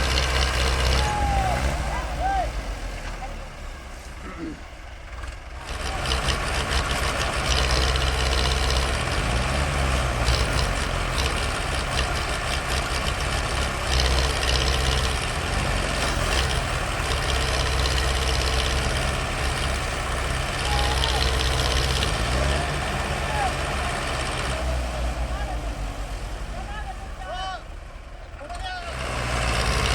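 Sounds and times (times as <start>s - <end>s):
heavy diesel engine revving: 0.0s - 29.9s.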